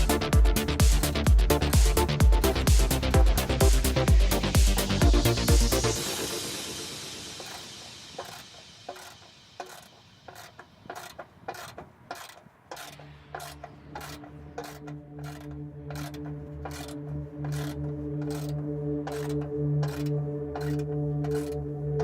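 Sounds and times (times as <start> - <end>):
ratchet clicking: 0.0 - 21.7.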